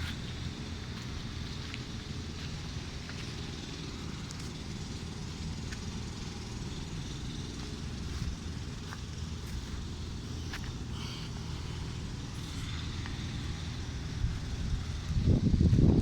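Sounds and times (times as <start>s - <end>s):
compressor hum: 0.0s - 16.0s
fan rushing: 0.0s - 16.0s.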